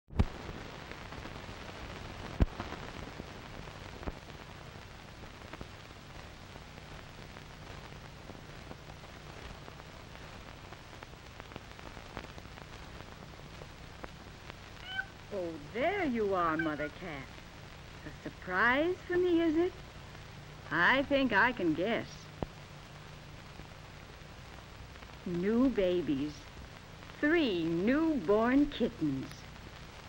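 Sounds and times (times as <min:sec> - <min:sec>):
film soundtrack hiss and crackle: 0:00.1 - 0:30.0
faint low hum: 0:00.2 - 0:30.0.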